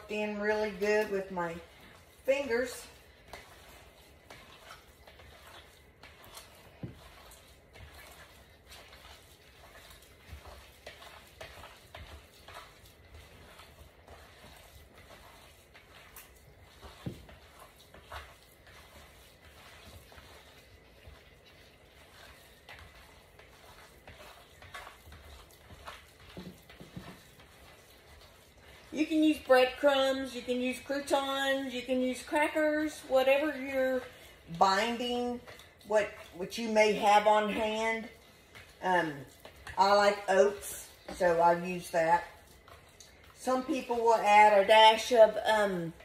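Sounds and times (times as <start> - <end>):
wet squishes of kneading meat: 0.0 - 46.0.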